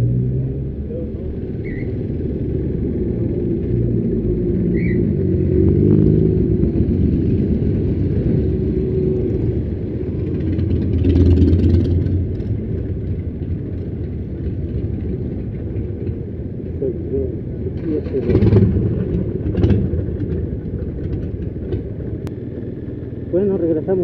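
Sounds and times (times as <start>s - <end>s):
motorcycles passing by: 0.0s - 24.0s
motorcycle engine running: 0.4s - 24.0s.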